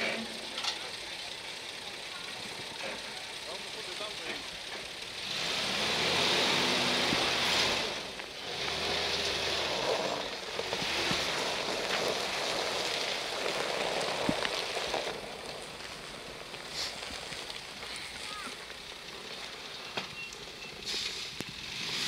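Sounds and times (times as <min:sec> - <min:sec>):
low engine note: 0:00.0 - 0:22.0
tyres flinging dirt and stones: 0:00.0 - 0:22.0.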